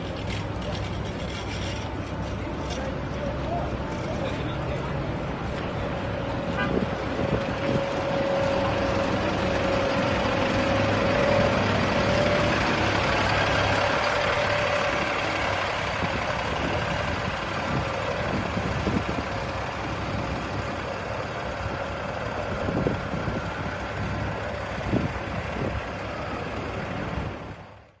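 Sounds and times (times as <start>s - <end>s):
bus diesel engine running: 0.0s - 28.0s
engine whine: 0.0s - 28.0s
street traffic: 0.0s - 28.0s.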